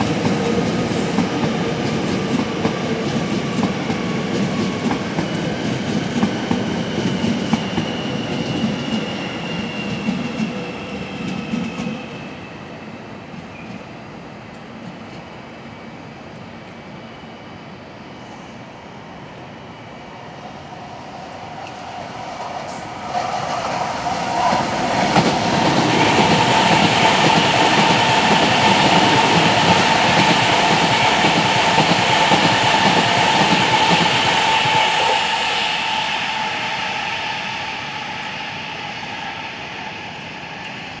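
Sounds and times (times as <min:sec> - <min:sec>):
train wheels rumbling on rails: 0:00.0 - 0:15.4, 0:20.8 - 0:41.0
train whine: 0:00.0 - 0:41.0.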